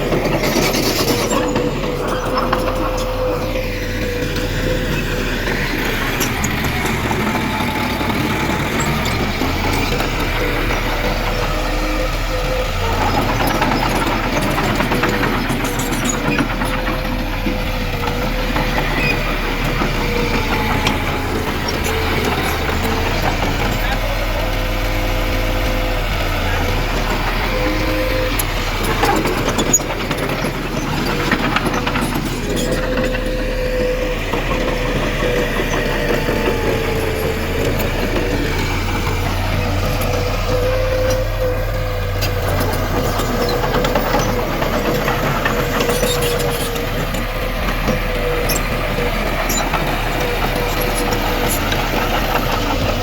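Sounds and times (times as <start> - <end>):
diesel engine of earth-moving machinery: 0.0 - 53.0.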